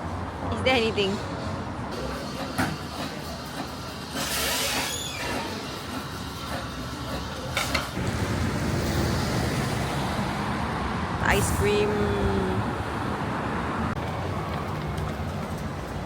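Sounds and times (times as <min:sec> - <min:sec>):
busy street rumble: 0:00.0 - 0:16.0.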